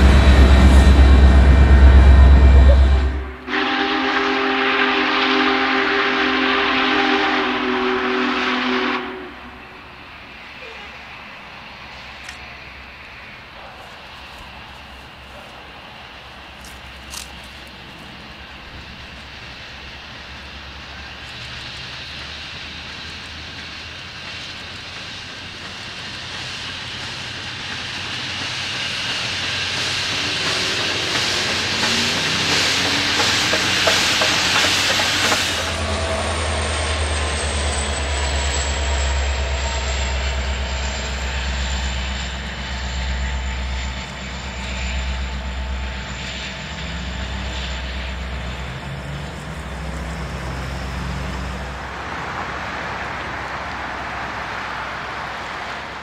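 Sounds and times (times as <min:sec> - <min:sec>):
steam locomotive exhaust beats: 0:00.0 - 0:56.0
train cars rumbling past: 0:00.0 - 0:56.0.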